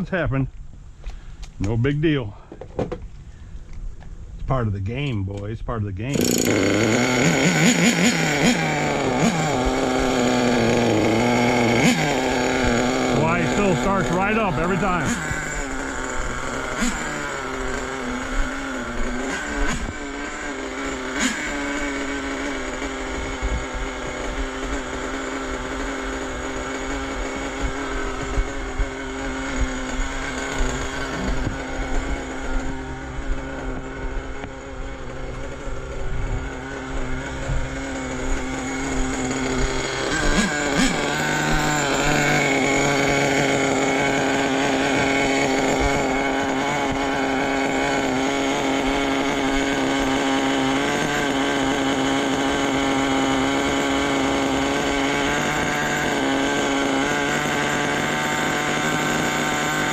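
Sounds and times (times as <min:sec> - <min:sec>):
small glow engine idling: 0:06.1 - 0:59.9.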